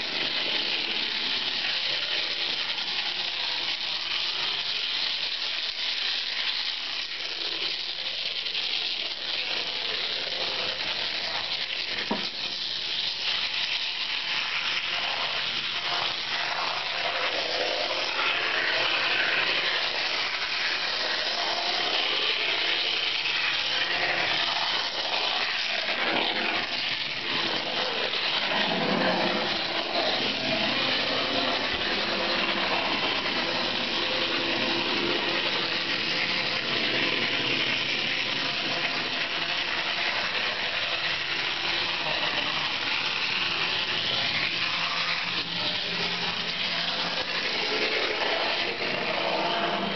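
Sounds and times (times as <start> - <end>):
model train wheels and motors: 0.0 - 49.9.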